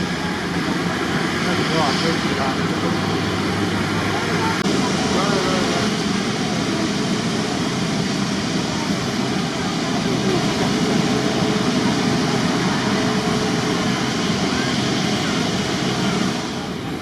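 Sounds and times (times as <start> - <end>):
faint voices: 0.0 - 17.0
jet engine rushing: 0.0 - 17.0.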